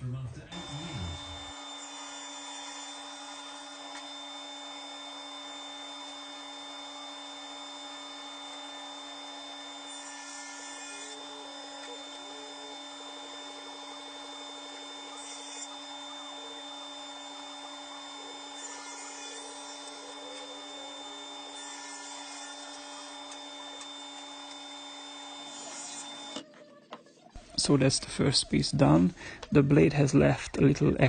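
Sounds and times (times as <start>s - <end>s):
table saw motor humming: 0.5s - 26.5s.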